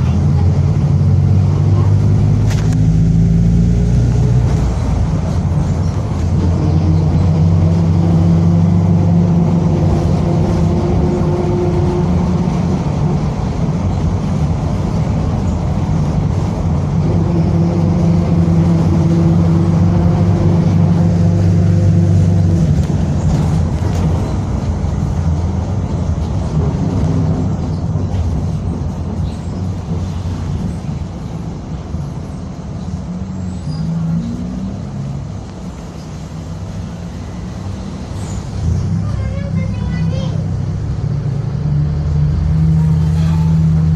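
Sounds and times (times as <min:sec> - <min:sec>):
bus diesel engine droning: 0:00.0 - 0:43.9
noisy differential growl: 0:00.0 - 0:43.9.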